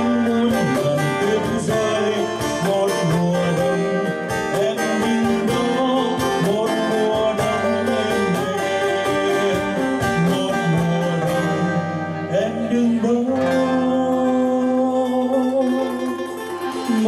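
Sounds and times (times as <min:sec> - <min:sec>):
acoustic guitars strumming: 0:00.0 - 0:17.0
person singing: 0:00.0 - 0:17.0.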